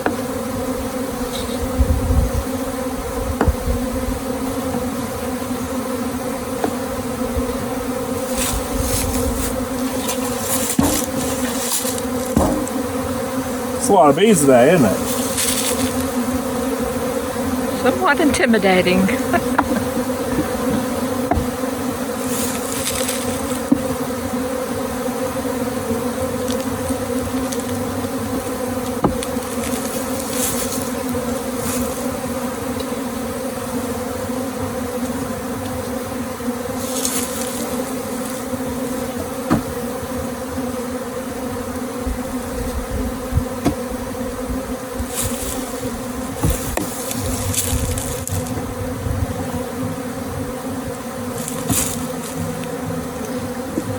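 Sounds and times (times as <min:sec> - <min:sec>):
bees buzzing: 0:00.0 - 0:53.9.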